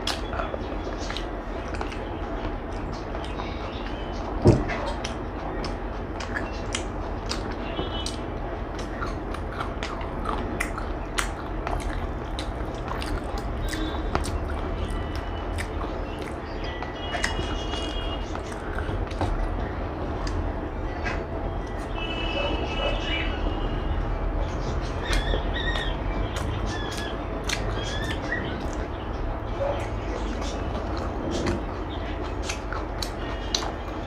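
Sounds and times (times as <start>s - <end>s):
wet chewing and smacking: 0.0s - 22.9s, 24.6s - 34.0s.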